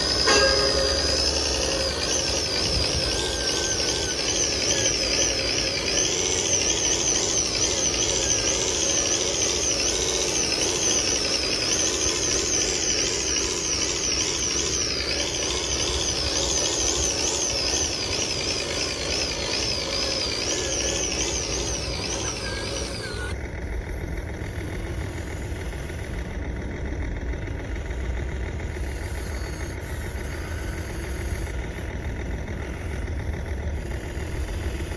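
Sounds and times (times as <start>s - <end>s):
small electric motors whining: 0.0s - 34.9s.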